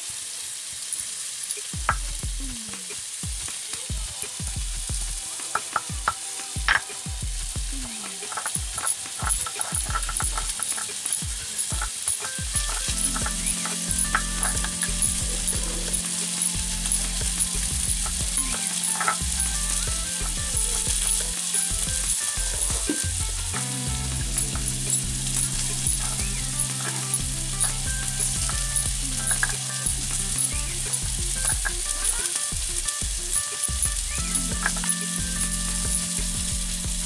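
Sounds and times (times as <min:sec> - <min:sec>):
background music with steady beat: 0:01.6 - 0:37.0.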